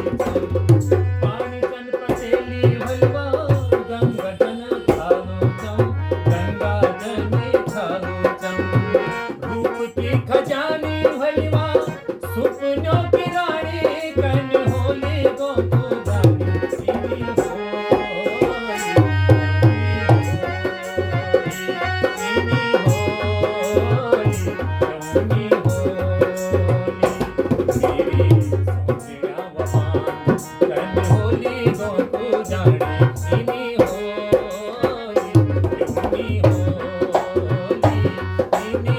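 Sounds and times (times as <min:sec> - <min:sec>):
dholak drum rhythm: 0:00.0 - 0:38.9
harmonium melody: 0:00.0 - 0:38.9.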